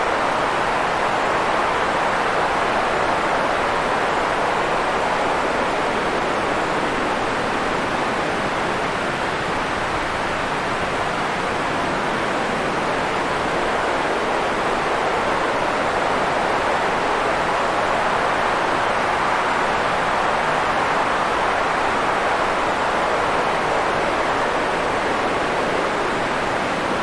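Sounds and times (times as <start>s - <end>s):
steady white noise hiss: 0.0s - 27.0s.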